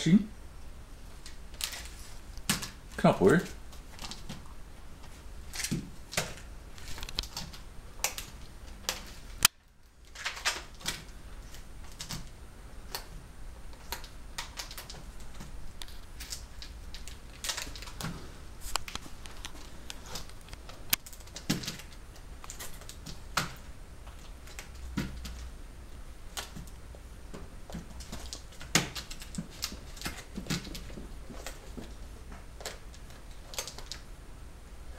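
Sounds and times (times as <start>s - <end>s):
rabbit gnawing with crunches: 0.6s - 34.9s.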